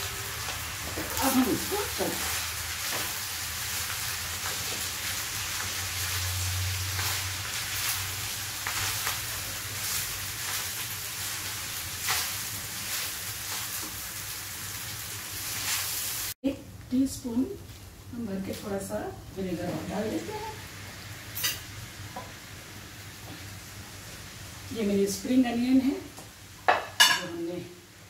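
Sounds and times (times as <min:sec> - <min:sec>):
fried rice sizzling in a pan: 0:00.0 - 0:16.4, 0:19.7 - 0:28.0.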